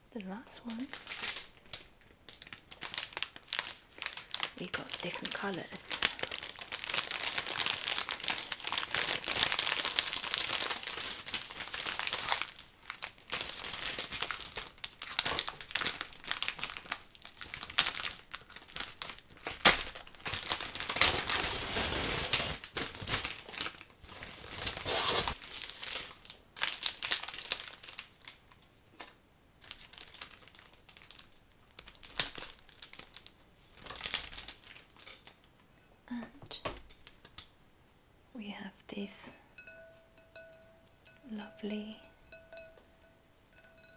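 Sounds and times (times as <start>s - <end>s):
cellophane crinkling: 0.3s - 35.5s.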